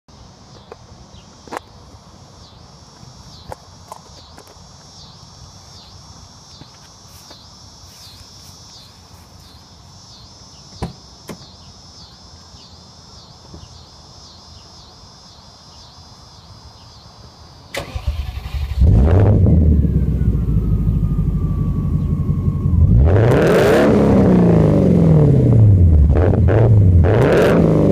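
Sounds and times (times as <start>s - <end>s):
insects chirping: 0.1s - 27.9s.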